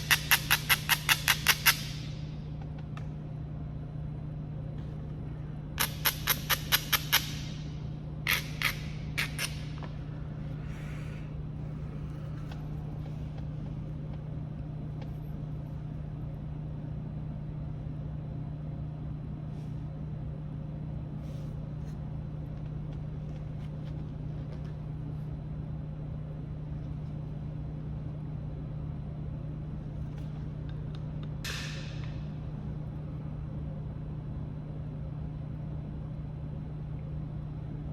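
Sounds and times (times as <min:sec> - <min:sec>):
low machine hum: 0:00.0 - 0:37.9.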